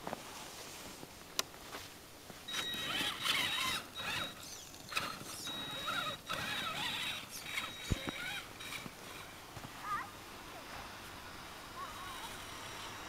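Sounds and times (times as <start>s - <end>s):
electric motor whine: 2.5s - 13.0s.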